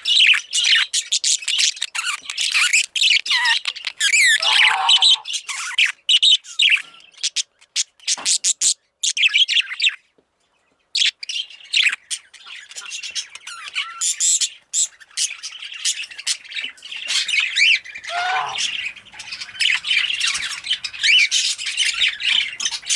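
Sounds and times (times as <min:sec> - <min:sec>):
budgerigar chirping and squawking: 0:00.0 - 0:10.0, 0:11.0 - 0:22.9.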